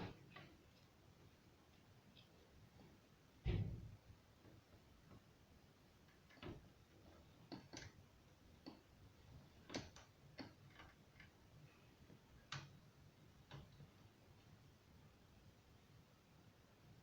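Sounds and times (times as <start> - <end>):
faint clicks and light taps: 0.0 - 14.8.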